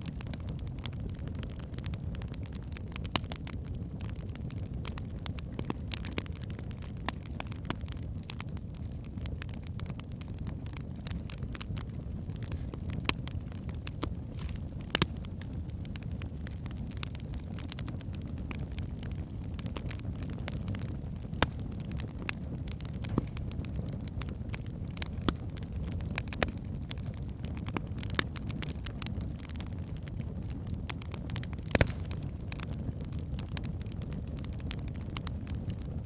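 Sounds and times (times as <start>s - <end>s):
fire flames rushing: 0.0s - 36.0s
logs crackling and popping: 0.0s - 36.0s.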